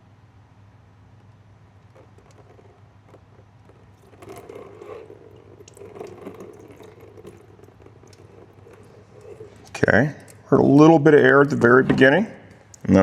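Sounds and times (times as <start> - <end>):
coolant running out: 1.8 - 12.9.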